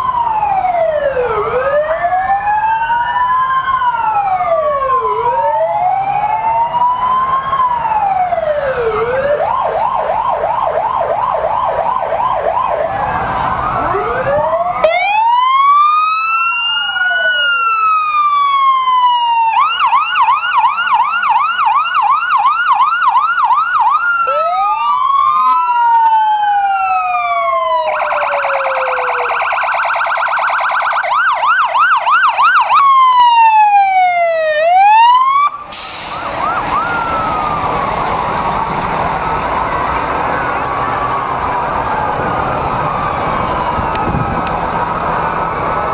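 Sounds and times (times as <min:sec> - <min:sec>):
electronic sirens wailing and yelping: 0:00.0 - 0:45.9.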